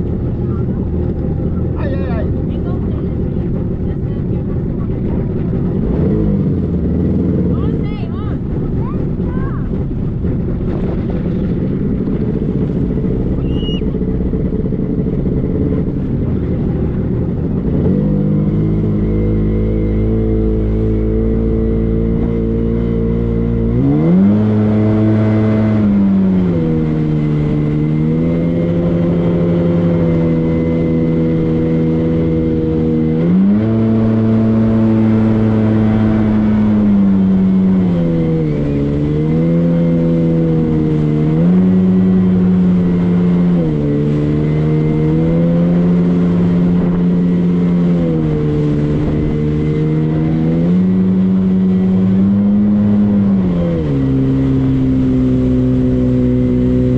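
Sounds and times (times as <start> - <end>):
motorboat engine running: 0.0 - 56.9
water noise: 0.0 - 56.9.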